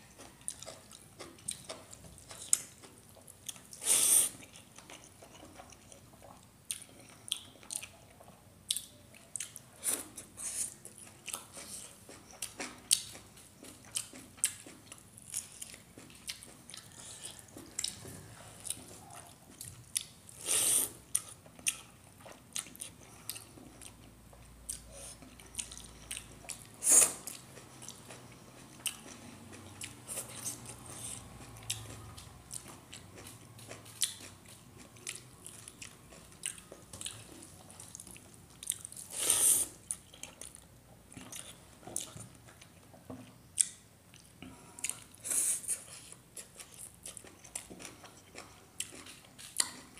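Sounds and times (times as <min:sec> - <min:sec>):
man chewing with wet smacking: 0:00.0 - 0:49.9.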